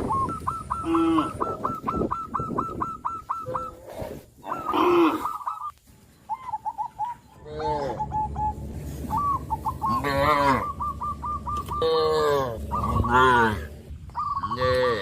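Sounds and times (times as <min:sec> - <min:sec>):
birds chirping rapidly: 0:00.0 - 0:15.0
low falling bird call: 0:00.0 - 0:15.0.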